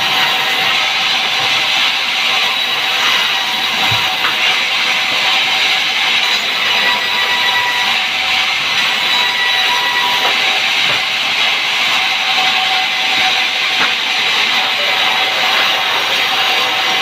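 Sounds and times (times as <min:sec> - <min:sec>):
sawmill saw hissing: 0:00.0 - 0:17.0.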